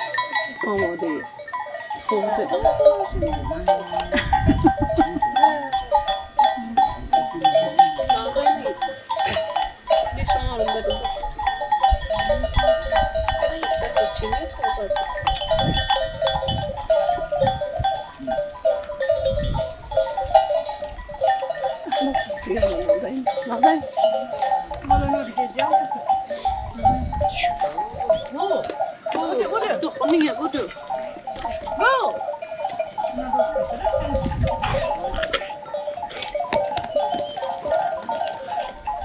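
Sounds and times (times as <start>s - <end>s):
animal bells clinking: 0.0s - 39.0s.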